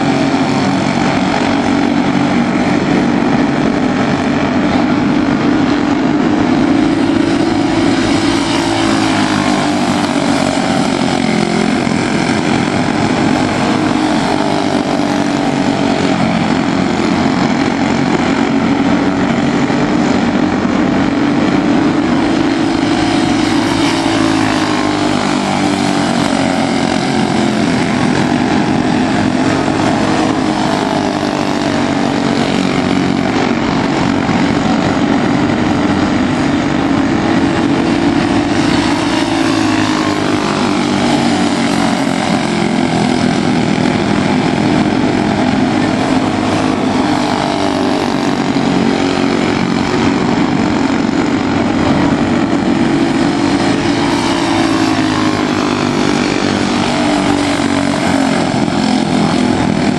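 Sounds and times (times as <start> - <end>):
small race car engines buzzing: 0.0 - 59.9.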